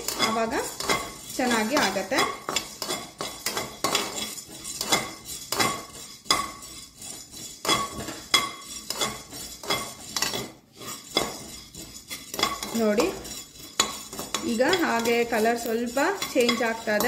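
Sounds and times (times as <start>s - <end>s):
metal spatula scraping a pan: 0.0s - 17.0s.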